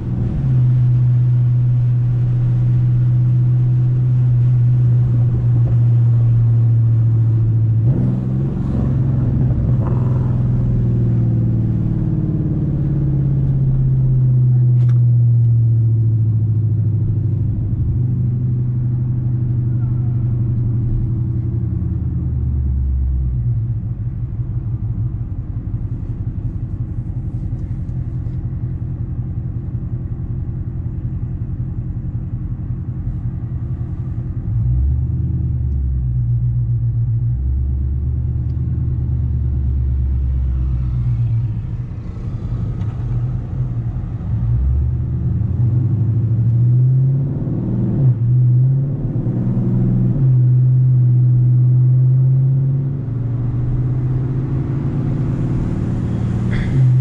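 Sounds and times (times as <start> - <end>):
deep car exhaust rumble: 0.0 - 57.0.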